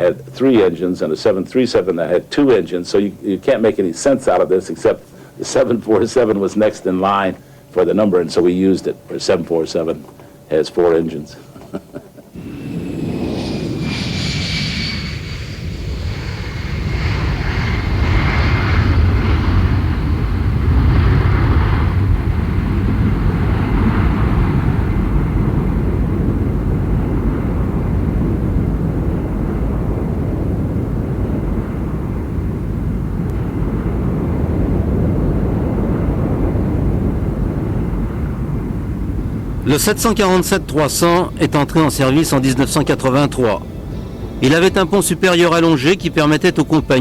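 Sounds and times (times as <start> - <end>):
jet engines whining and rumbling: 0.0 - 47.0.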